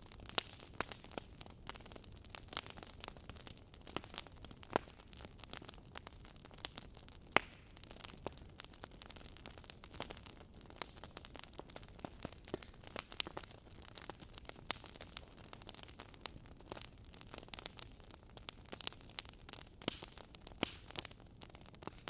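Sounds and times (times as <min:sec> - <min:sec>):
logs crackling and popping: 0:00.0 - 0:22.0
low rumble of flame: 0:00.0 - 0:22.0.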